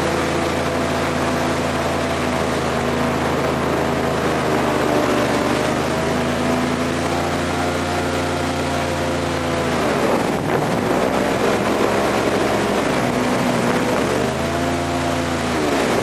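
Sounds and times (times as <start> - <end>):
airboat engine and propeller: 0.0 - 16.0.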